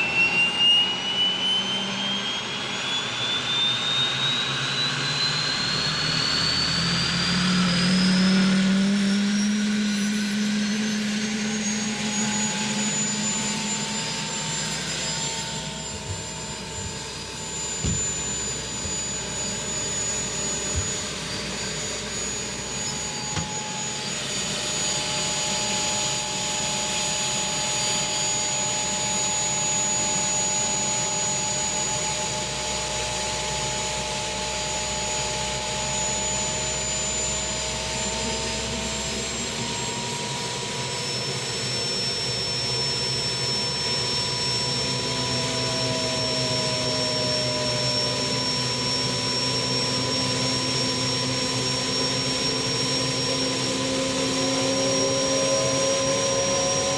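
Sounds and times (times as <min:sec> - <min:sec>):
whining machine hiss: 0:00.0 - 0:56.9.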